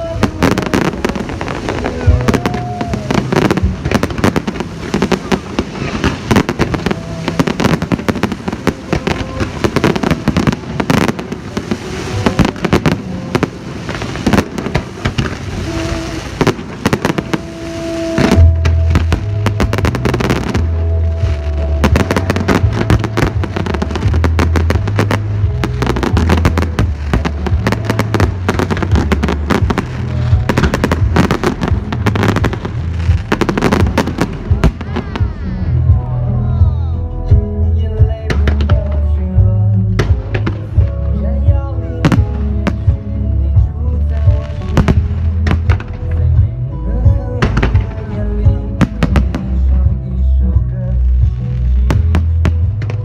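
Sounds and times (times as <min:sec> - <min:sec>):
fireworks bangs and crackles: 0:00.0 - 0:36.0, 0:38.1 - 0:46.5, 0:47.4 - 0:49.9, 0:50.6 - 0:53.0
heavy bass music: 0:00.0 - 0:53.0.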